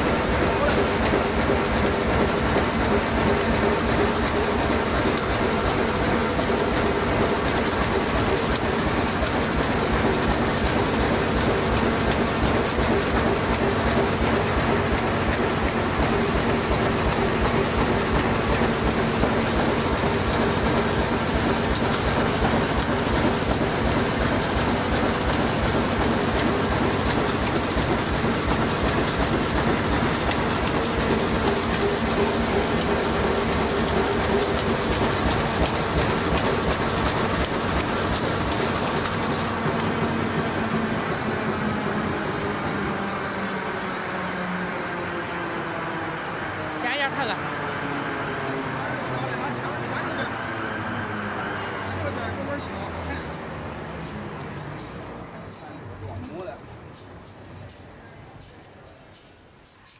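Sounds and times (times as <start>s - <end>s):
machine clattering: 0.0s - 46.1s, 46.8s - 59.9s.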